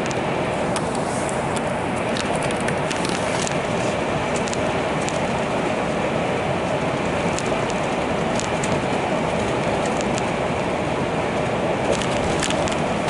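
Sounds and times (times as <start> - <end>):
vehicle running noise: 0.0 - 13.0.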